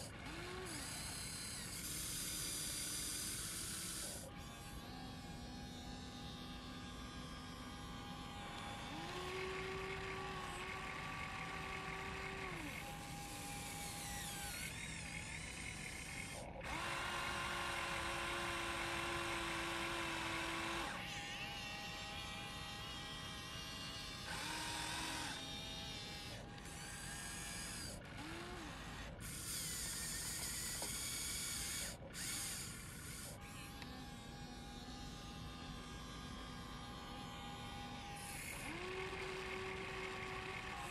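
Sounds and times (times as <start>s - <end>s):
model excavator motors whining: 0.0s - 40.9s.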